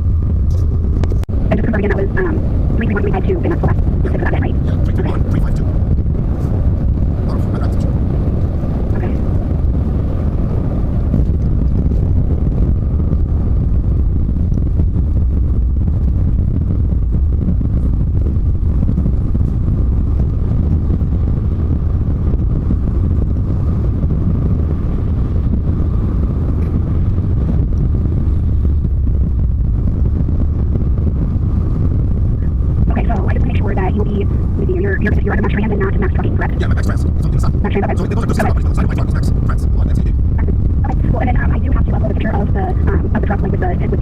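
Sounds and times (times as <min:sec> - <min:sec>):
faint steady hum: 0:00.0 - 0:11.6, 0:12.5 - 0:44.0
truck engine and tyre rumble: 0:00.0 - 0:44.0.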